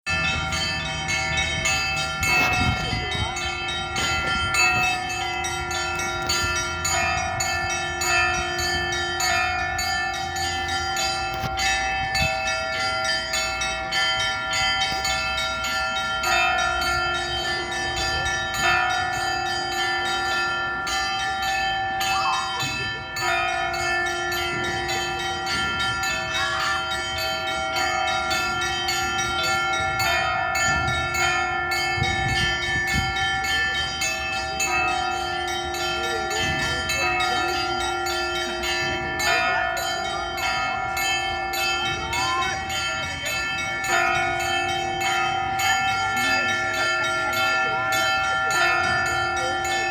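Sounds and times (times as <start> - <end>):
church bells ringing a peal: 0.0 - 49.9.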